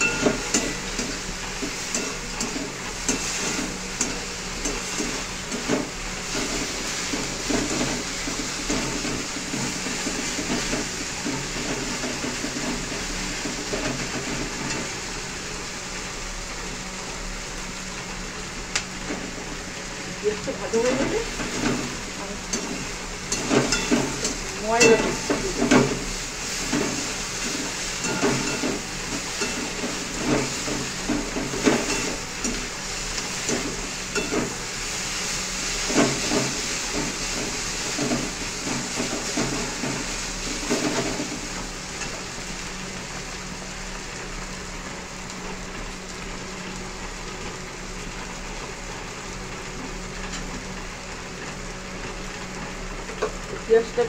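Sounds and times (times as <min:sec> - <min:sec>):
onions sizzling in hot oil: 0:00.0 - 0:54.0.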